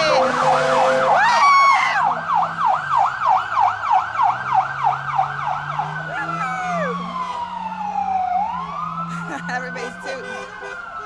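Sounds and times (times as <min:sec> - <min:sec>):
emergency vehicle siren: 0:00.0 - 0:11.0.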